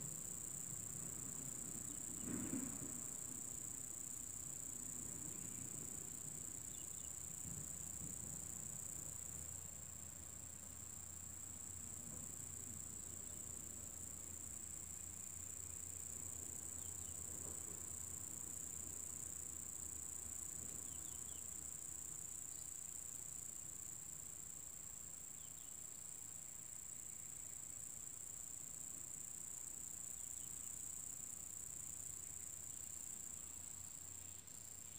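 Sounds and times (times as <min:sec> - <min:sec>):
insect chorus drone: 0:00.0 - 0:34.9.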